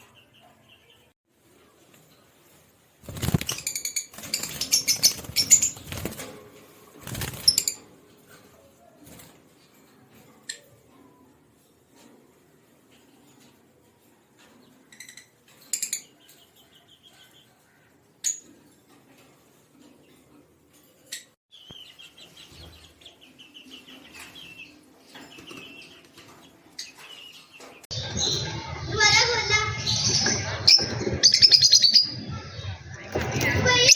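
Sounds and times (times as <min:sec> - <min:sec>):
birds chirping: 0:00.0 - 0:11.7, 0:12.8 - 0:33.9.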